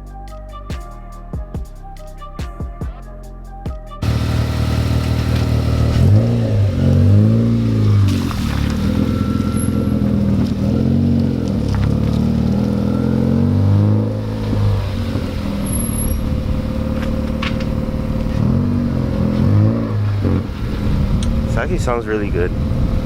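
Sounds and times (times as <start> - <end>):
car engine revving: 4.0 - 23.0.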